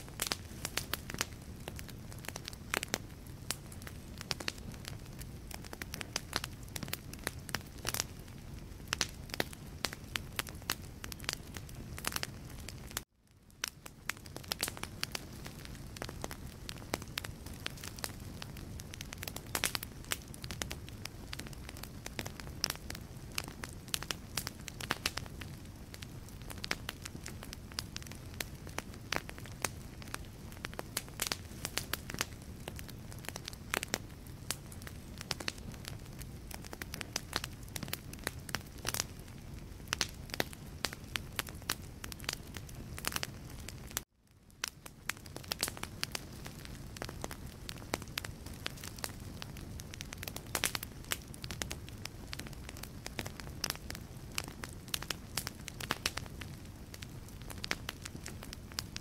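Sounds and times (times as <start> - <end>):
logs crackling in fireplace: 0.0 - 59.0
low rumble of flame: 0.0 - 59.0.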